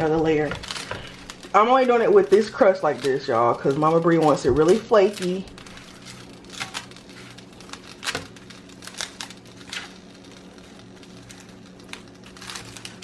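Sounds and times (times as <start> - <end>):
faint steady hum: 0.0 - 13.0
pastry crust crackling: 0.0 - 13.0.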